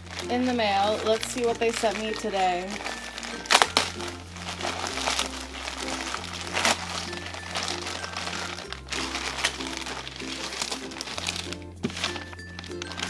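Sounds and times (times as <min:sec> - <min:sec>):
background music with bass line: 0:00.0 - 0:13.0
plastic mailer crinkling: 0:00.0 - 0:13.0.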